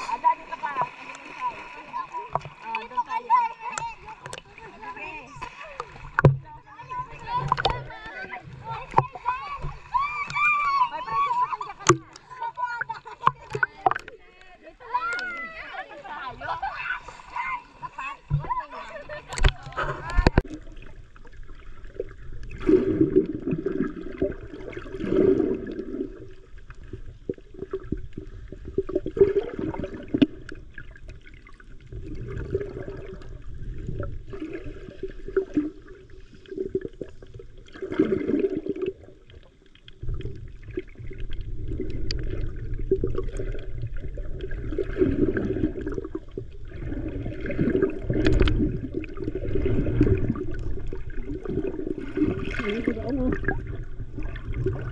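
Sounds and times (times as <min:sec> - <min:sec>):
muffled underwater water rushing: 0:00.0 - 0:54.9.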